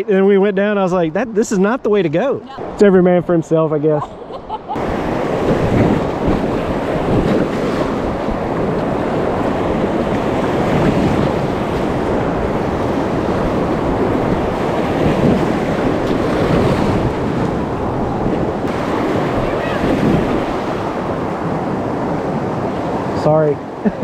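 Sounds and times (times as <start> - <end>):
wind buffeting microphone: 2.5 - 24.0
river rapids rushing and splashing: 4.8 - 24.0.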